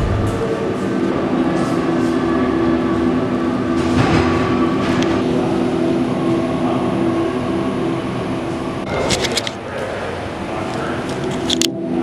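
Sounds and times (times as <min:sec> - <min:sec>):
droning hum of low tones: 0:00.0 - 0:12.0.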